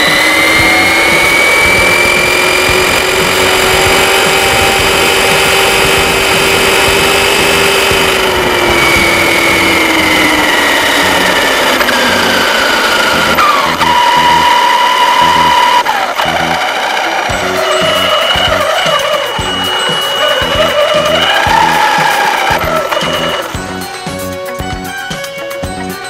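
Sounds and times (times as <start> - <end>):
rough tyre noise: 0.0 - 25.0
electric motor whining: 0.0 - 26.0.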